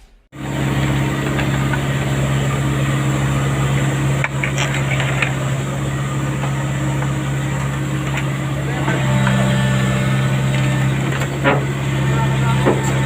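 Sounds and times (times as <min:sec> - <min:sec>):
diesel engine idling: 0:00.4 - 0:13.0.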